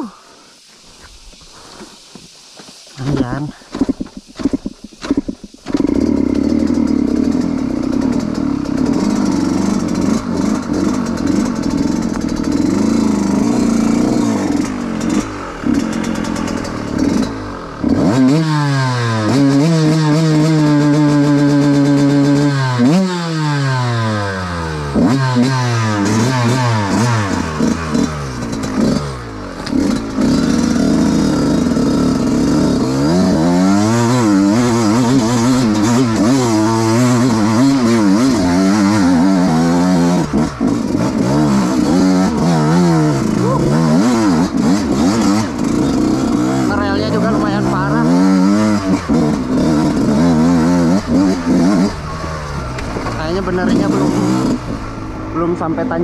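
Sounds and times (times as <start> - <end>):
motorcycle engine revving: 3.0 - 56.0.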